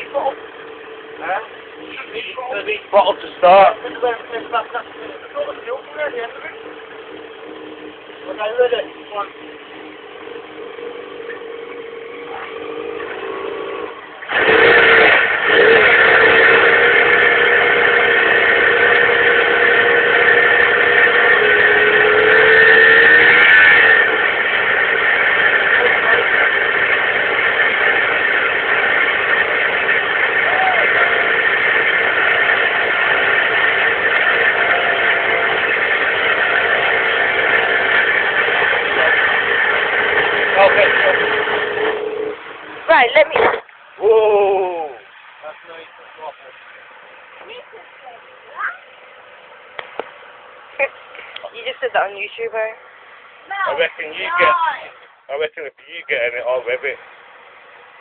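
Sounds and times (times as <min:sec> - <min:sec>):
loud engine noise: 0:00.0 - 0:58.0
steady engine tone: 0:00.0 - 0:58.0.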